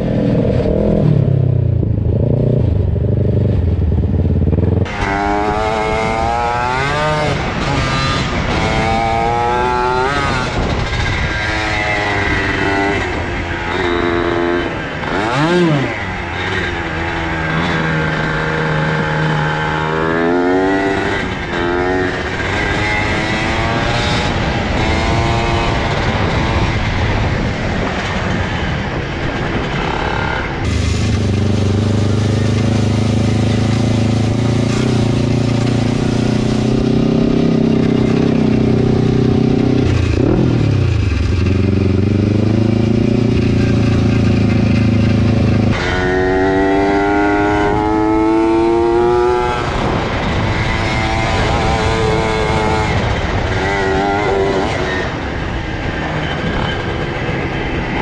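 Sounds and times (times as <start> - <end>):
mini bike engine revving: 4.5 - 28.5, 29.4 - 58.0.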